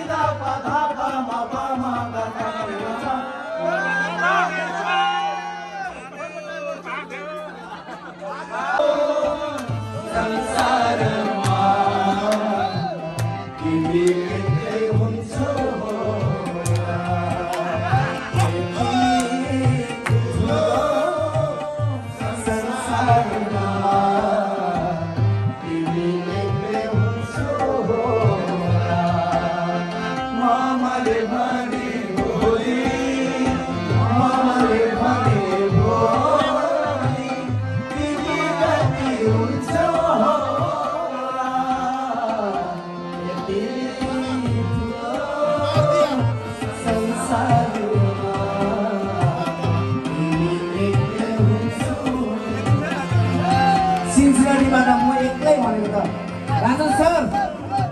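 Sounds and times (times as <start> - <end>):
man singing into a microphone: 0.0 - 5.0, 8.6 - 57.9
harmonium: 0.0 - 57.9.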